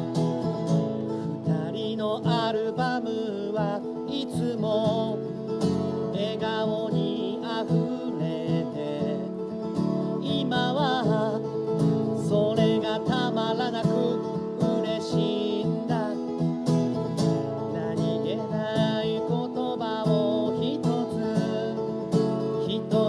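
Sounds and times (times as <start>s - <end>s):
acoustic guitar music: 0.0s - 23.0s.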